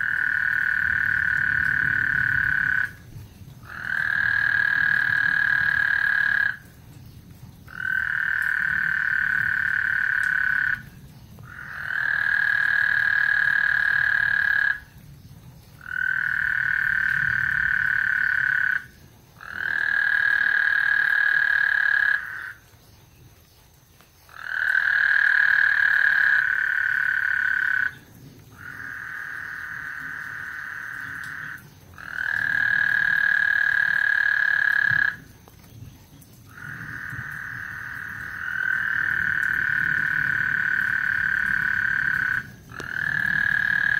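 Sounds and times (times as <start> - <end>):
frogs trilling: 0.0 - 43.9.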